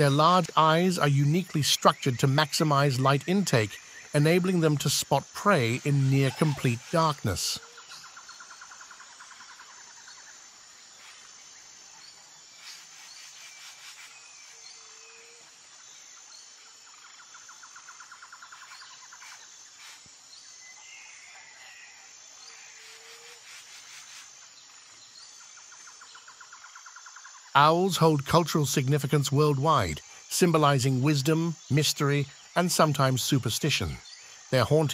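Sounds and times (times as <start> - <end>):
insects pulsing: 0.0 - 34.9.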